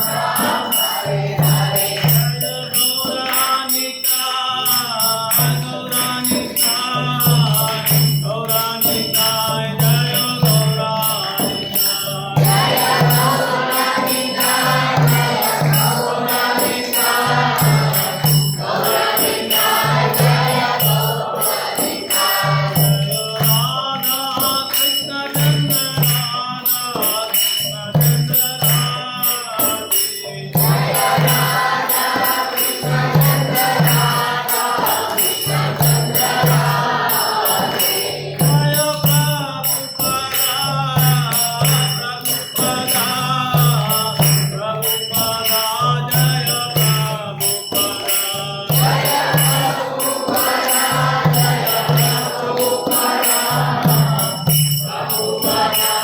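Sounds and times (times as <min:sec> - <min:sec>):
group singing a chant: 0:00.0 - 0:56.0
hand cymbals ringing: 0:00.0 - 0:56.0.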